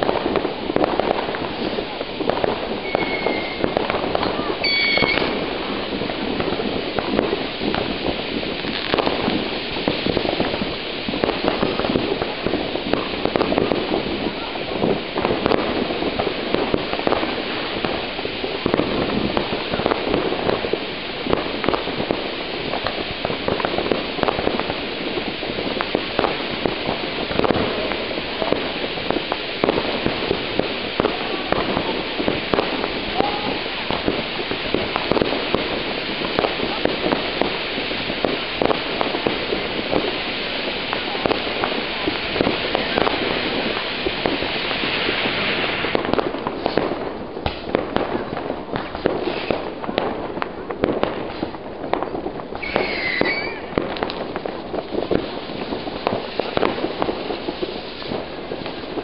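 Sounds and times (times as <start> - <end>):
firecrackers crackling and popping: 0.0 - 59.0
firework fountain hissing: 0.0 - 59.0.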